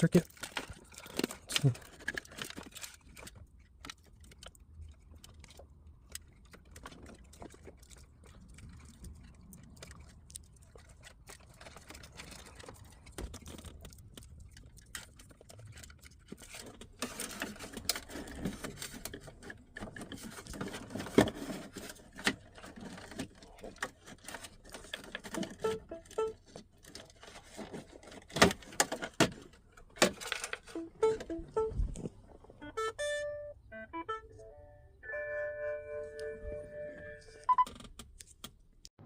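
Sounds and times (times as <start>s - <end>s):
hands handling tools and wiring: 0.0s - 32.6s.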